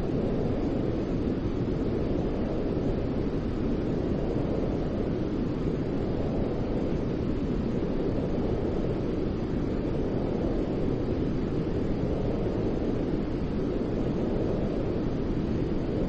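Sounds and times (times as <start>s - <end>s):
steady white noise: 0.0s - 16.0s.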